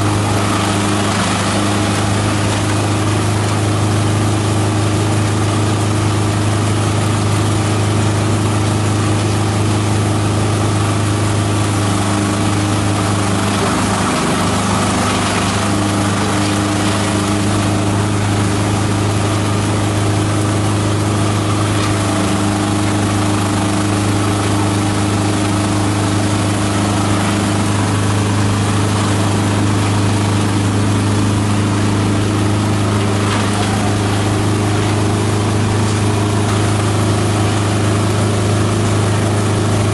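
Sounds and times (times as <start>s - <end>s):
shredder machine shredding branches: 0.0s - 39.9s.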